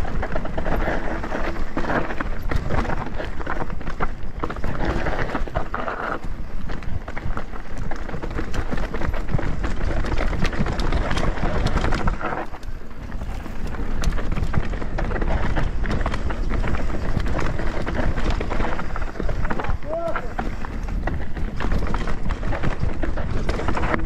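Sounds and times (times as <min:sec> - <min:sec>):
bike knocking and rattling: 0:00.0 - 0:24.0
bike tyres crunching over dirt: 0:00.0 - 0:24.0.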